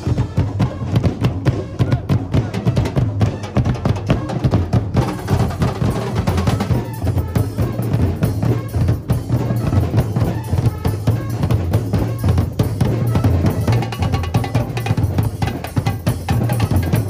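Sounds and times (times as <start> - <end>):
bass drums playing fast rhythm: 0.0 - 17.0.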